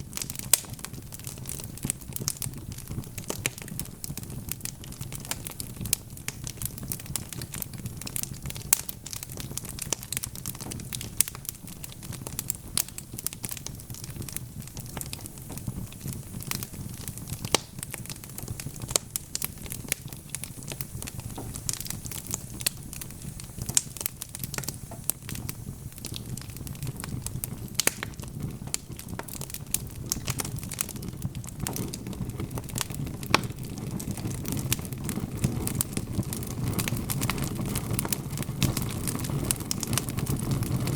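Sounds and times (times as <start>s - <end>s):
low rumble of burning: 0.0s - 40.9s
wood fire crackling and popping: 0.0s - 40.9s.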